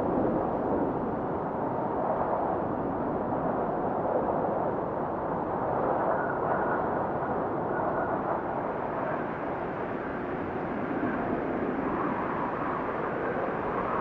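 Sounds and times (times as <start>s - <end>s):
blizzard wind blowing: 0.0s - 14.0s.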